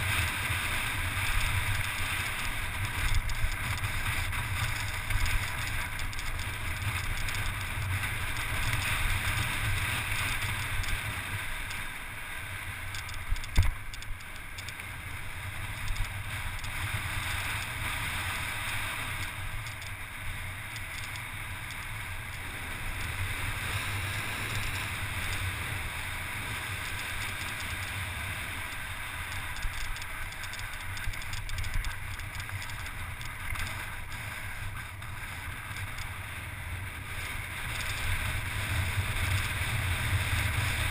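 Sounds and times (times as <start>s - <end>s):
bike tyres rushing over gravel: 0.0s - 40.9s.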